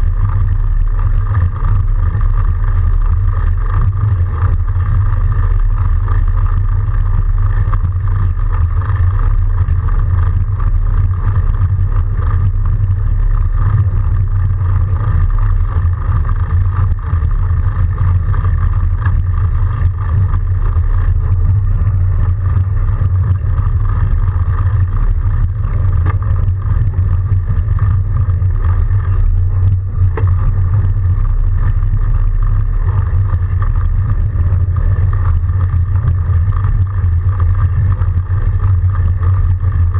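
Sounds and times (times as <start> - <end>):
fat bike rolling through snow: 0.0 - 39.9.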